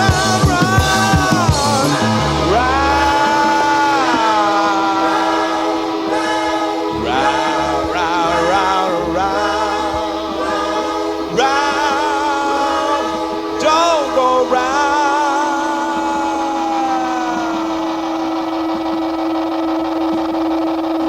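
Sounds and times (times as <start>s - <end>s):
held musical note: 0.0s - 19.4s
person singing with vibrato: 0.0s - 19.4s.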